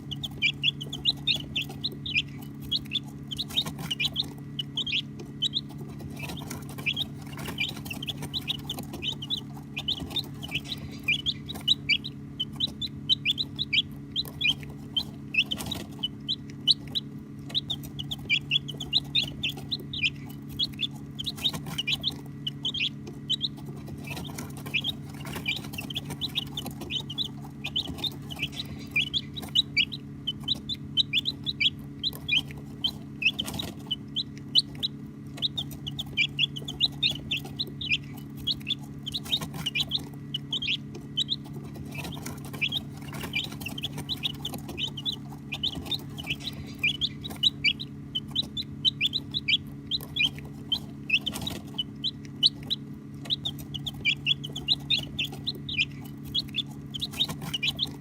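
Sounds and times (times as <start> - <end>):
baby chicks peeping: 0.0 - 58.0
steady low hum: 0.0 - 58.0.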